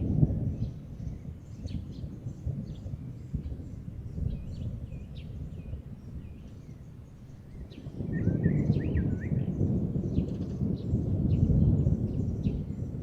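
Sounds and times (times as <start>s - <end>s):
distant thunder rumbling: 0.0s - 13.0s
small birds chirping: 0.2s - 13.0s.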